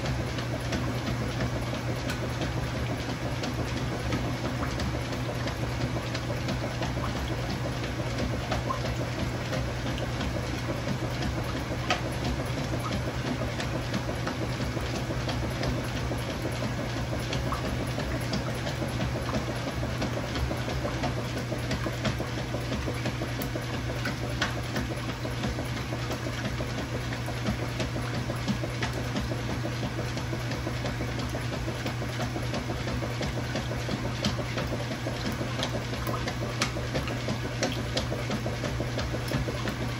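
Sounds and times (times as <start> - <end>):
churning water: 0.0 - 39.9
washing machine motor hum: 0.0 - 39.9.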